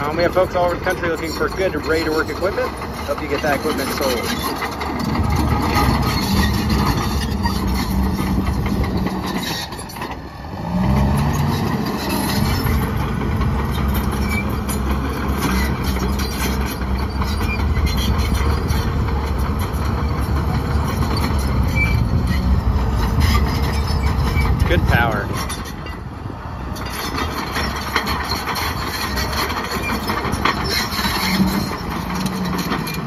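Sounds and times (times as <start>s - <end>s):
bulldozer diesel engine under load: 0.0s - 33.0s
tracks and rubble clattering: 0.0s - 33.0s.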